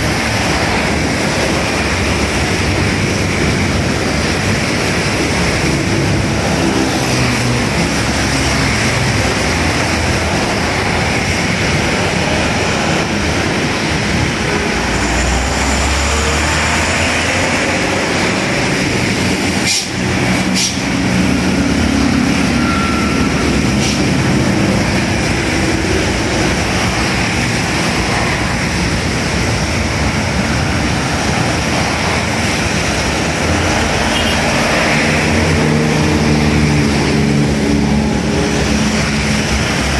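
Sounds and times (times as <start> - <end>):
tyres hissing on wet road: 0.0 - 39.9
vehicles passing by: 0.0 - 39.9.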